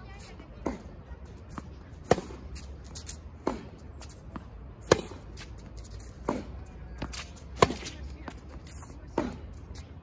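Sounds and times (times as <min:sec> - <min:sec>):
racket hitting tennis ball: 0:00.6 - 0:09.8.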